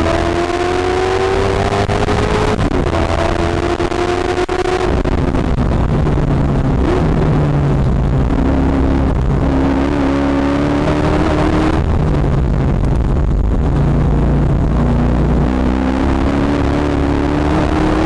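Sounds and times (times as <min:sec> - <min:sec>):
race car engine from cockpit: 0:00.0 - 0:18.0.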